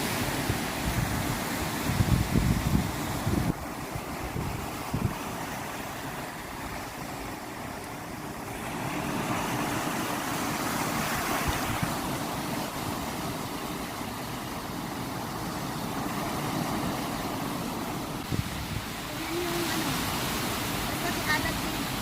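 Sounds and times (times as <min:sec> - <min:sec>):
ocean waves rushing: 0:00.0 - 0:22.0.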